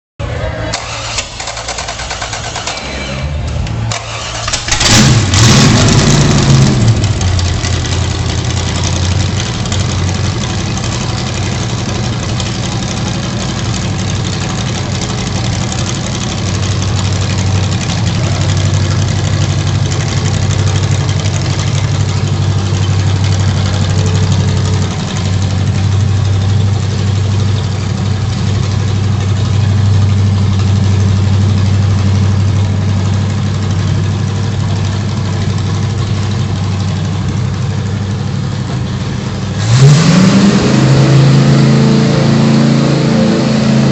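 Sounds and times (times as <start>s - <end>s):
lawnmower engine running: 3.5s - 39.6s.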